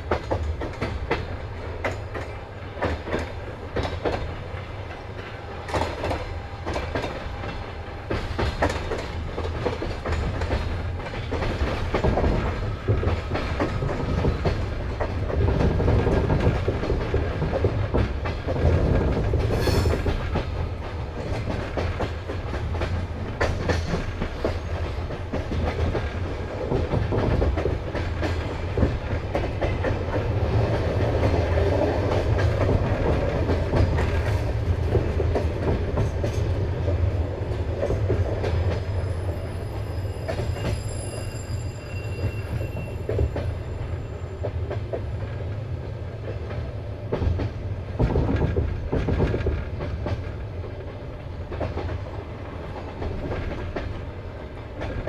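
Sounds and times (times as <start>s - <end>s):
wheels clicking over rail joints: 0.0s - 39.4s, 44.4s - 55.0s
train wheels rumbling: 0.0s - 55.0s.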